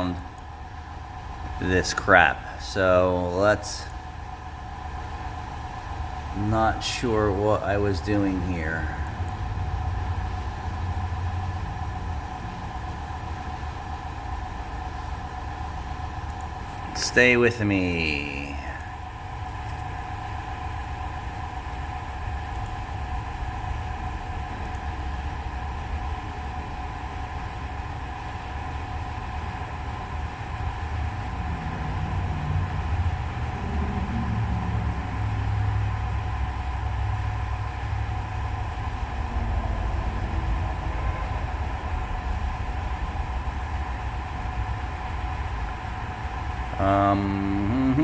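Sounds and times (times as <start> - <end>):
constant whine: 0.0 - 48.0
low mechanical rumble: 0.0 - 48.0.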